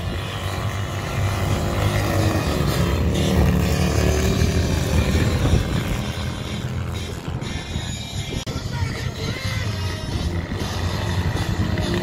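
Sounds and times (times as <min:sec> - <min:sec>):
motorcycle engines running hard: 0:00.0 - 0:12.0.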